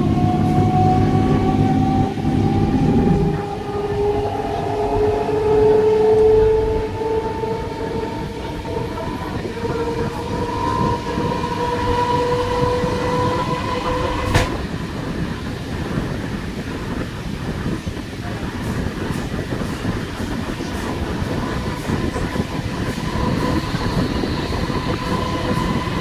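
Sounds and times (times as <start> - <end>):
train traction motors whining: 0.0 - 26.0
wheels rumbling on track: 0.0 - 26.0.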